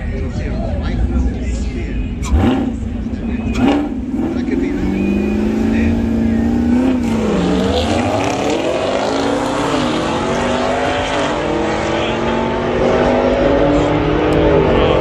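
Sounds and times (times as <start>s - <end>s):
vehicle engine revving: 2.1s - 15.0s.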